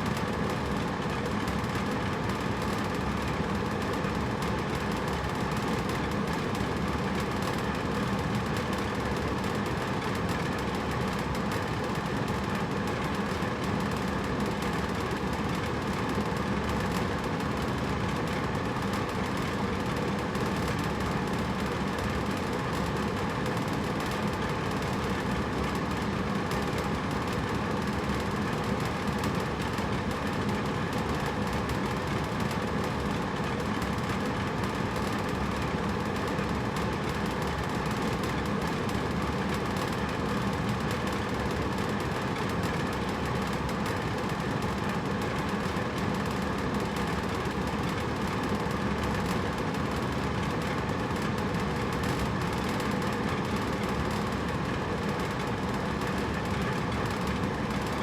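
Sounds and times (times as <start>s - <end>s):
air conditioner fan humming: 0.0s - 58.0s.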